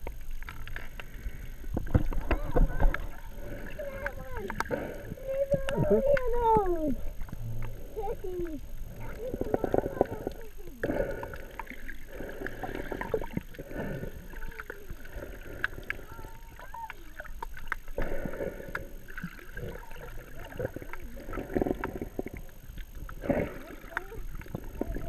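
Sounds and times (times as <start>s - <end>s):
small clicks underwater: 0.0s - 25.0s
water sloshing and gurgling underwater: 0.0s - 25.0s.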